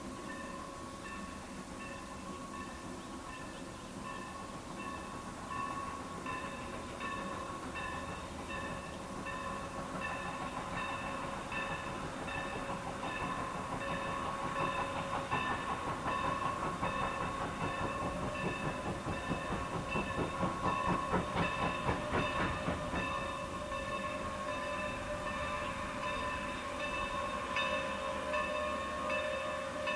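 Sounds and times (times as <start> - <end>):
train bell ringing: 0.0 - 29.9
train clattering: 0.0 - 29.9.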